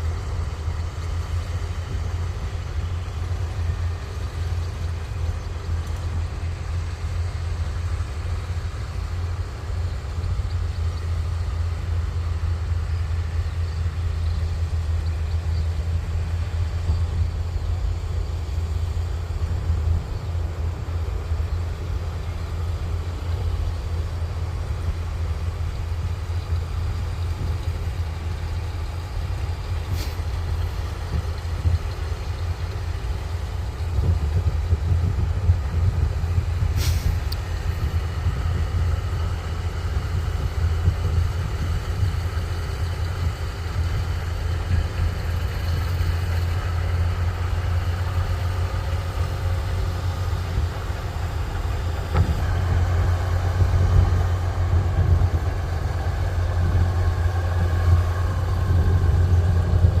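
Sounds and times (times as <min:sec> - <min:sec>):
harvester diesel engine droning: 0:00.0 - 1:00.0.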